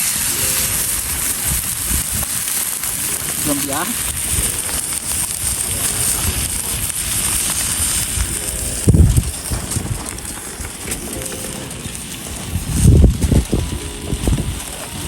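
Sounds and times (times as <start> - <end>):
crackling campfire: 0.0 - 15.0
wind buffeting microphone: 0.2 - 15.0.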